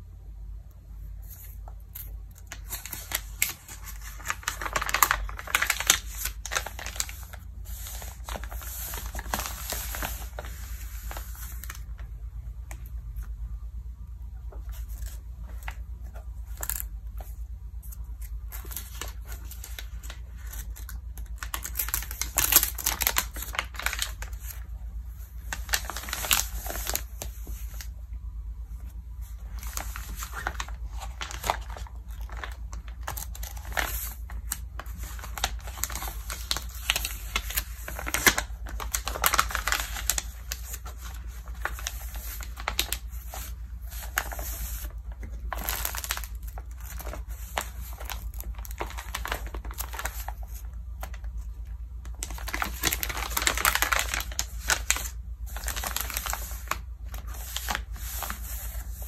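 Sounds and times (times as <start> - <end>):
magazine pages turning and rustling: 1.2 - 13.3, 14.5 - 28.0, 28.9 - 59.0.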